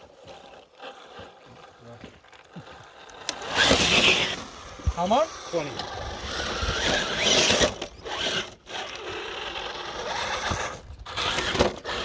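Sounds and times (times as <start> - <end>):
toy car motor and gears whirring: 0.0 - 12.0.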